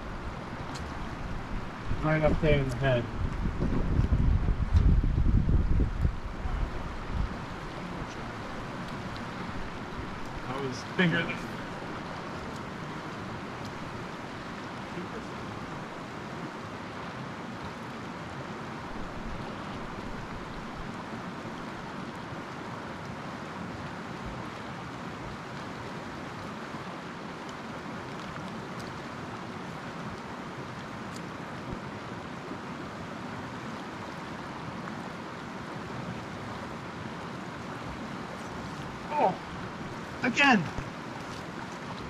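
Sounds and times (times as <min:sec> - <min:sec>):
river rushing over rocks: 0:00.0 - 0:42.0.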